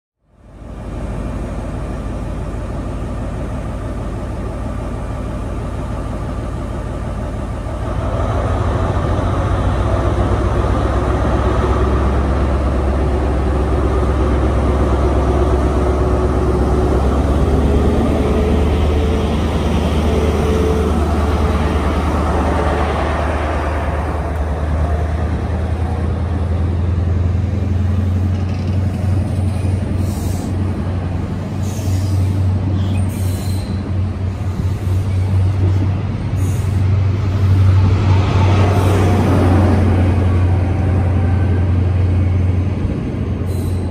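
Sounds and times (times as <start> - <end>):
diesel locomotive engine: 0.2 - 43.9.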